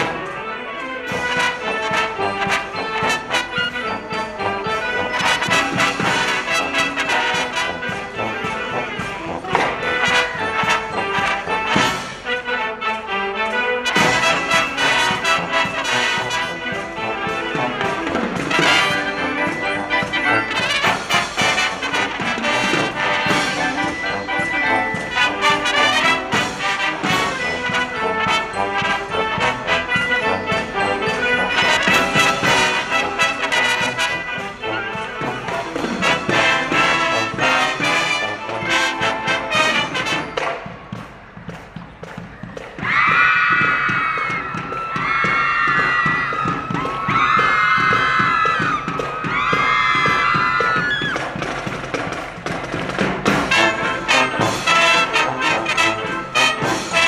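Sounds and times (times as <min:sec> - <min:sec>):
marching band playing: 0:00.0 - 0:57.0.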